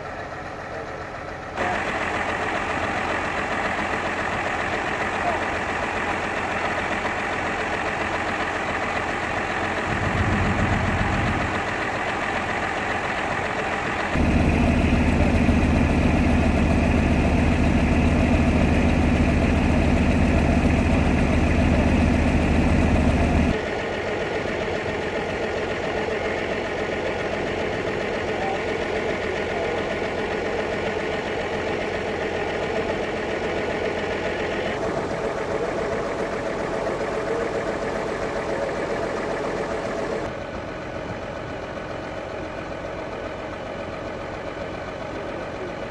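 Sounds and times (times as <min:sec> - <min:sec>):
tractor engines idling: 0:00.0 - 0:45.9.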